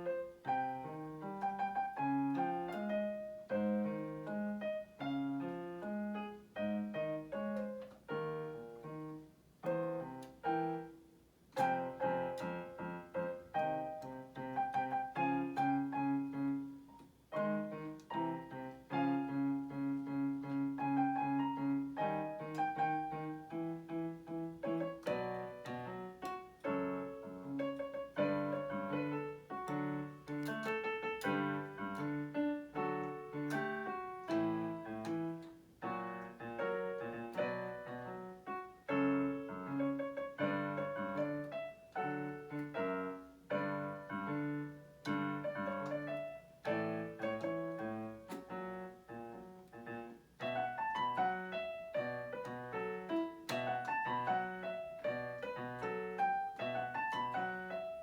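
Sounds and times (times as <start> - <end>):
slow piano piece on keyboard: 0.0 - 58.0.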